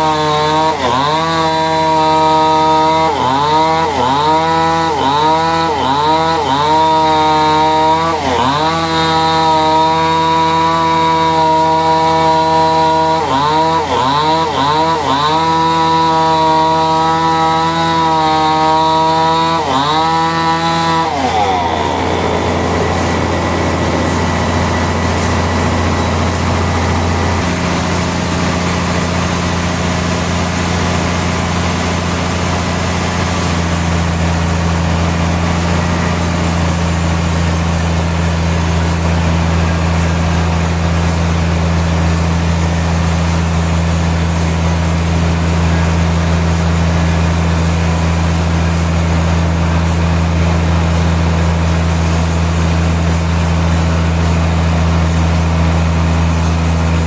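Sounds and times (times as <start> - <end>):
engine-driven saw cutting wood: 0.0 - 57.0.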